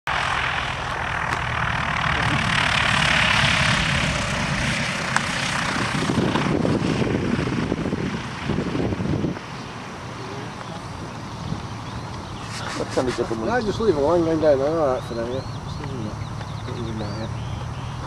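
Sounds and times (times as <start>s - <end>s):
propeller plane engine drone: 0.1s - 18.0s.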